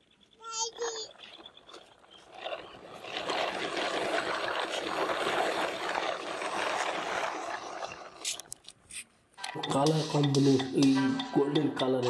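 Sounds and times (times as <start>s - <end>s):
toy truck wheels rolling on asphalt: 0.0s - 10.7s.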